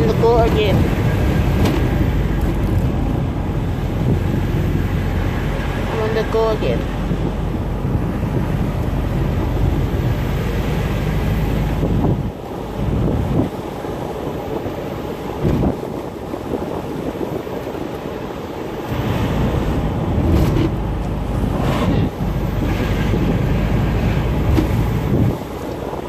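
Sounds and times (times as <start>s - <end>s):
car road noise: 0.0s - 26.0s
wind noise on microphone: 0.0s - 26.0s.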